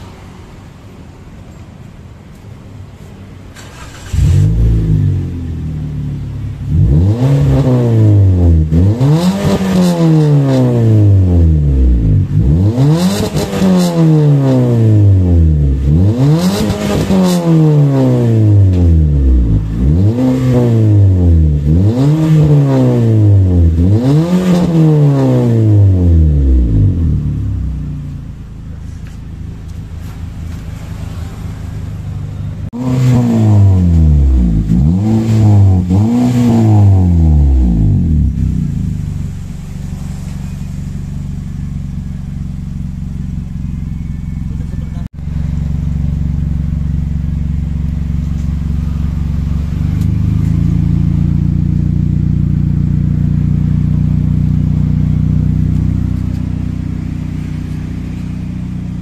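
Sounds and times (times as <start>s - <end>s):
car engine idling: 0.0s - 16.5s, 17.1s - 59.0s
car engine revving: 3.6s - 59.0s.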